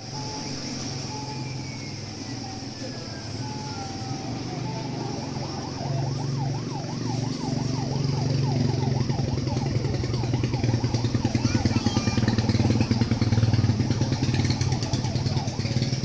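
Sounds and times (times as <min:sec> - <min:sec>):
electronic siren sweeping: 0:00.0 - 0:16.0
small engine running: 0:00.0 - 0:16.0.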